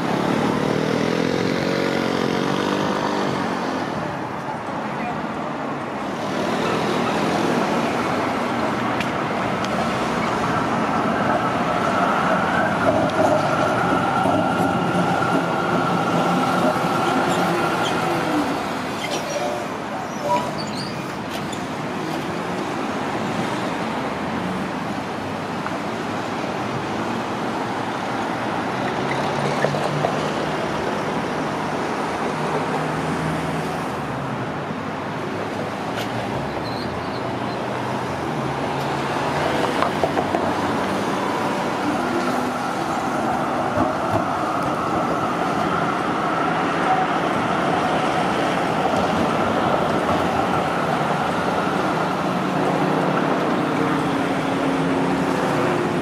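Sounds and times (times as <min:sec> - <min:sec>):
road traffic: 0:00.0 - 0:56.0
tram running on street tracks: 0:00.0 - 0:56.0.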